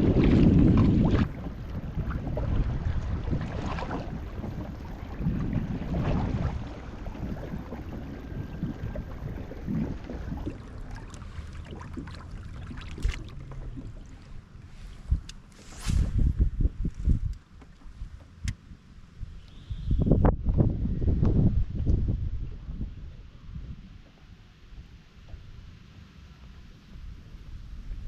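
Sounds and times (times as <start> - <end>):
wind buffeting microphone: 0.0 - 18.2, 19.2 - 24.0.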